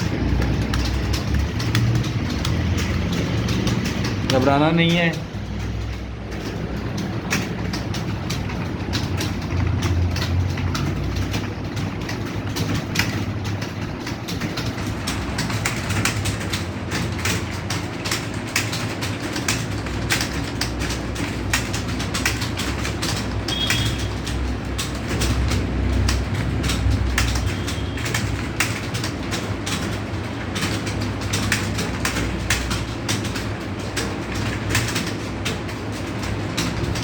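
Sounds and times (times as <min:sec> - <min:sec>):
keyboards clattering: 0:00.0 - 0:37.0.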